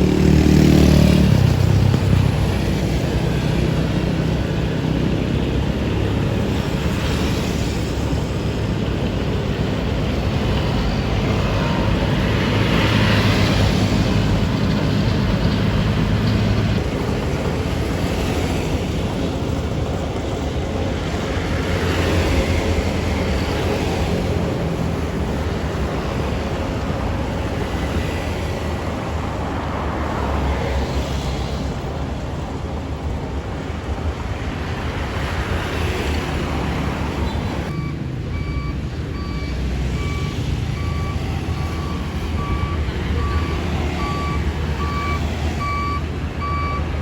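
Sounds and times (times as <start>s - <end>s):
paving machinery diesel engines: 0.0s - 47.0s.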